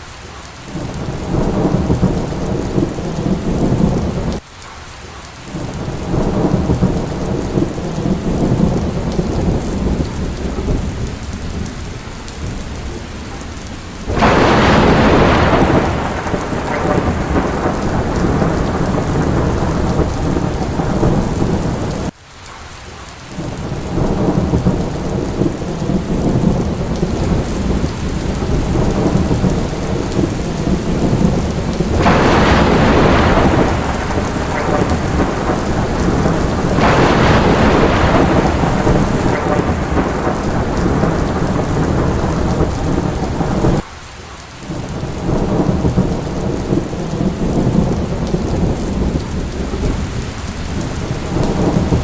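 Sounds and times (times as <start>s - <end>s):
heavy rain: 0.0s - 52.0s
thunder rumbling: 0.7s - 4.4s, 5.6s - 22.1s, 23.3s - 43.9s, 44.7s - 52.0s.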